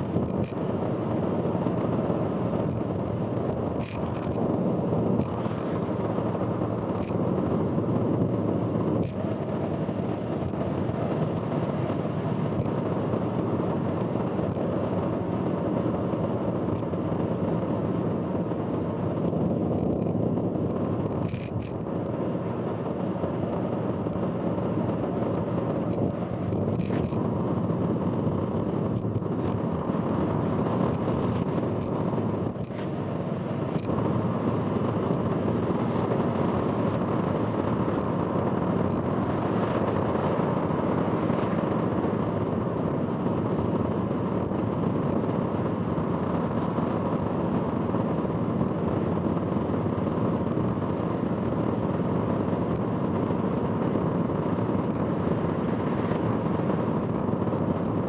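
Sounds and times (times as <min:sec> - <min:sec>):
road tyre and engine noise: 0:00.0 - 0:58.0.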